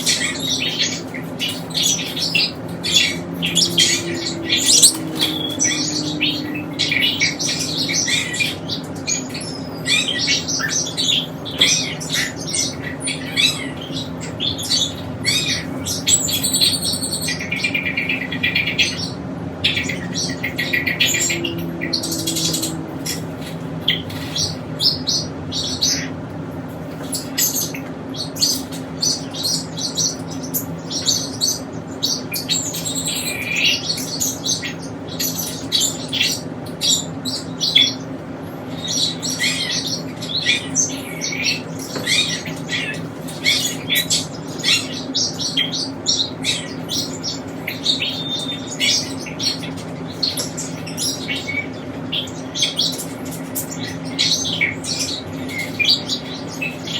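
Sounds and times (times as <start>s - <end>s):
parrots chirping: 0.0s - 26.2s, 26.9s - 56.9s.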